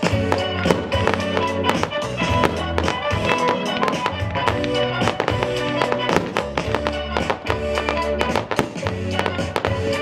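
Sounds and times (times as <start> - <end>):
fireworks crackling: 0.0 - 10.0
music with steady beat: 0.0 - 10.0.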